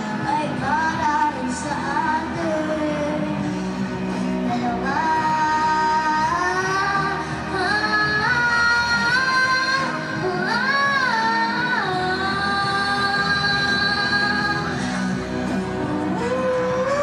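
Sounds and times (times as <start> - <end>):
backing music: 0.0 - 17.0
girl singing into microphone: 0.0 - 17.0.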